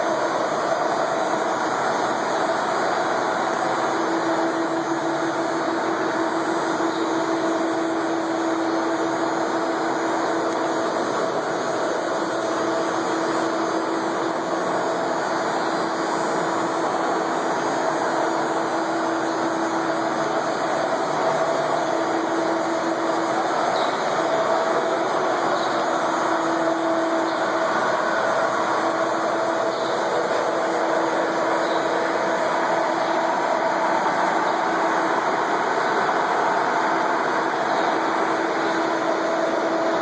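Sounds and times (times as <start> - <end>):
lathe running with whine: 0.0 - 40.0.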